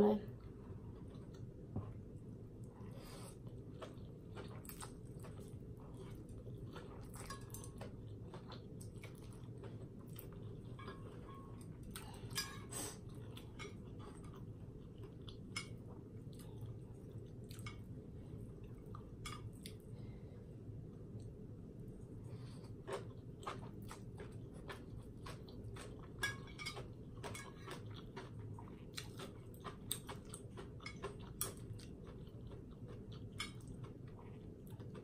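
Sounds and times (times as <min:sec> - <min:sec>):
chewing: 0:00.3 - 0:02.0, 0:02.6 - 0:20.0, 0:22.1 - 0:35.0.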